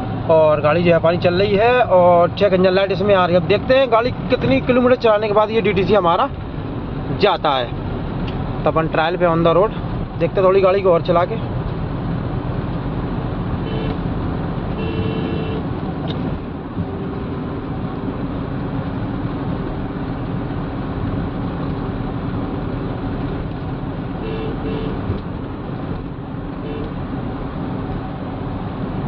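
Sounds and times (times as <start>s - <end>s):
tyre and road noise: 0.0s - 29.0s.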